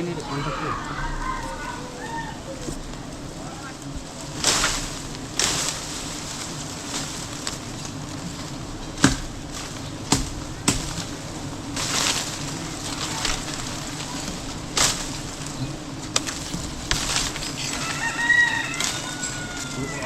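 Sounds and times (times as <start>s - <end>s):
low hum: 0.0s - 20.0s
rustling hiss: 0.0s - 20.0s
sharp cracks: 0.0s - 20.0s.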